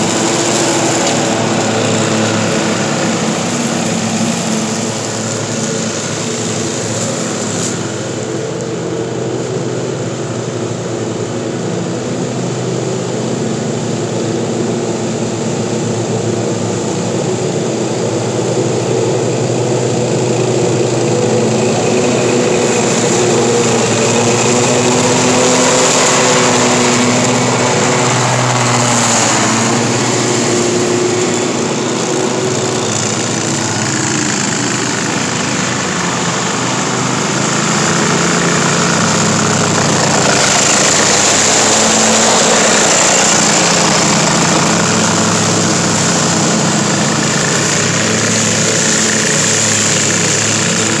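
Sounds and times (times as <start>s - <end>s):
lawn mower engines running: 0.0s - 51.0s
mowers chopping leaves: 0.0s - 51.0s.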